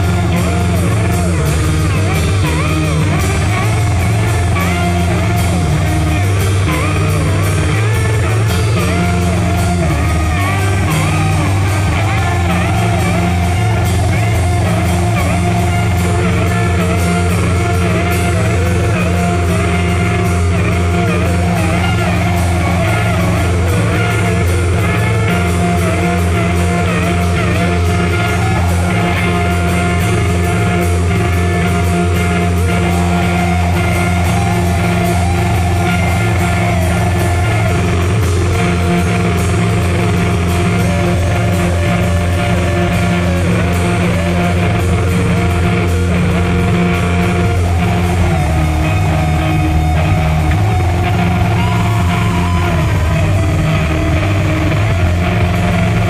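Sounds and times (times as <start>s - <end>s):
band playing rock jam: 0.0s - 56.0s
electric guitar wavering notes: 0.0s - 56.0s.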